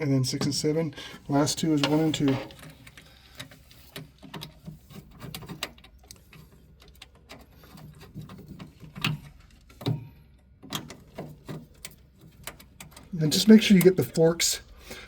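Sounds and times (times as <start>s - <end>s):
small clicks and knocks of handling wires: 1.6s - 14.4s.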